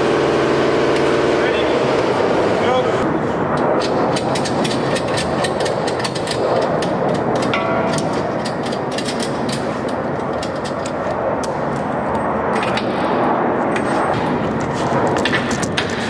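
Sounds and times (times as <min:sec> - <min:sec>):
steady machinery noise: 0:00.0 - 0:16.0.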